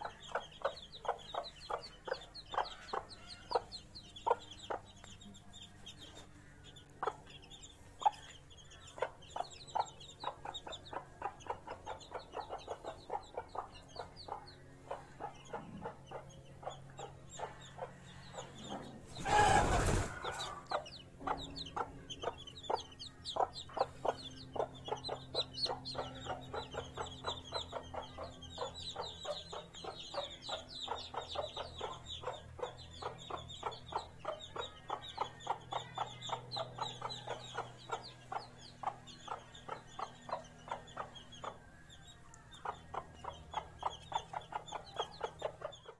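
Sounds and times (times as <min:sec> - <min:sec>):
chicks peeping: 0:00.0 - 0:45.9
hen clucking: 0:00.0 - 0:45.9.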